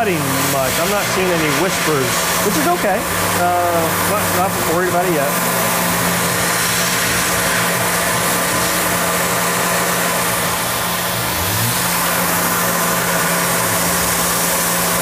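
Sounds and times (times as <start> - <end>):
milling machine spindle humming: 0.0 - 15.0.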